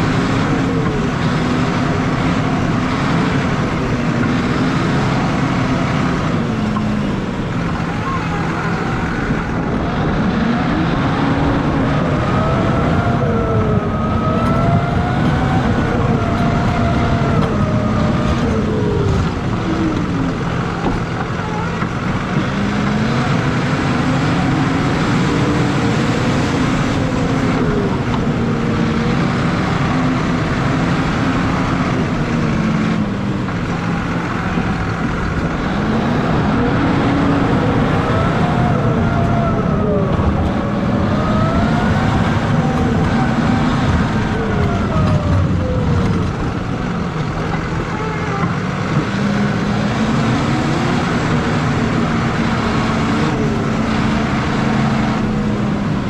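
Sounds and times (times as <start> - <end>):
diesel tractor engine: 0.0 - 56.0.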